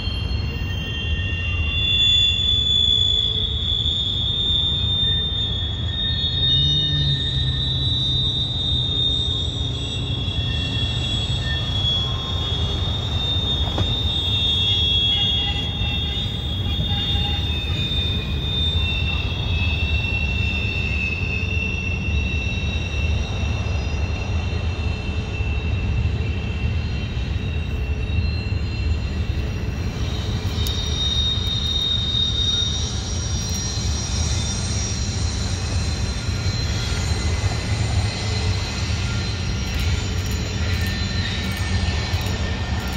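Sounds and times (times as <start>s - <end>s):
freight train cars rolling: 0.0s - 42.9s
high wheel squeal: 0.0s - 42.9s.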